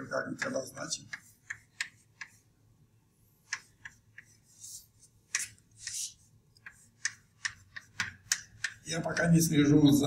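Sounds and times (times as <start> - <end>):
chalk tapping on blackboard: 0.0 - 2.5, 3.4 - 9.6
chalk scratching on blackboard: 0.1 - 2.5, 3.4 - 9.6.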